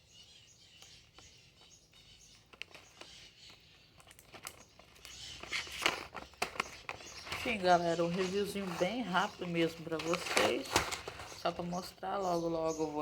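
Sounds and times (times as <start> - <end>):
soft rustling of package: 0.7 - 13.0.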